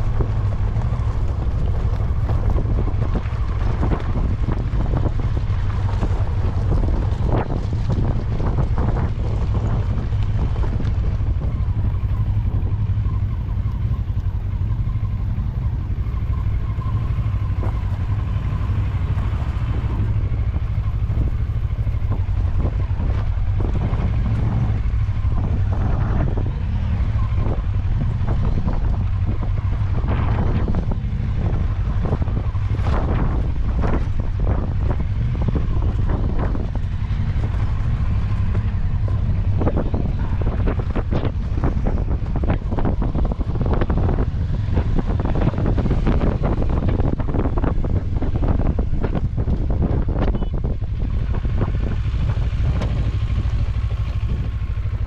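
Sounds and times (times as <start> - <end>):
vehicle rumble: 0.0 - 55.0
wind buffeting microphone: 0.0 - 55.0.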